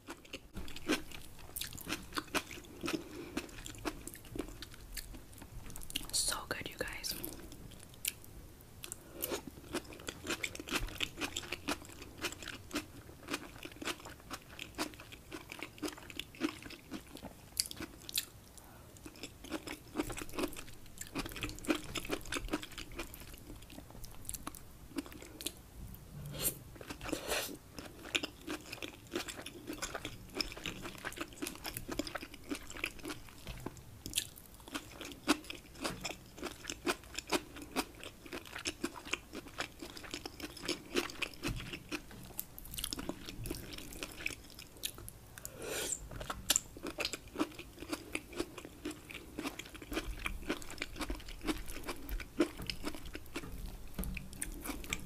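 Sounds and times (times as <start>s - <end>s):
close chewing with mouth clicks: 0.0s - 6.1s, 7.2s - 25.6s, 26.8s - 55.0s.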